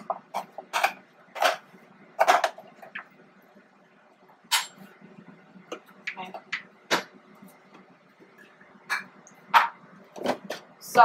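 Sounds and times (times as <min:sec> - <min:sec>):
air fryer humming: 0:00.0 - 0:11.0.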